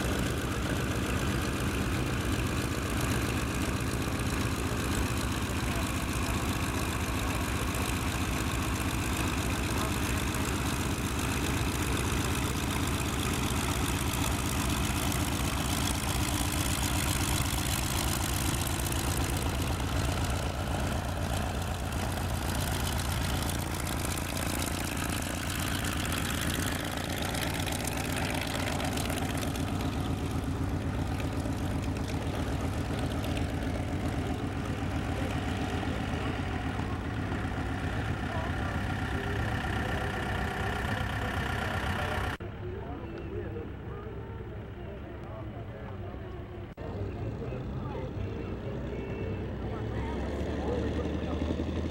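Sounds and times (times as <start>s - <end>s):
propeller plane engine rumbling: 0.0s - 51.9s.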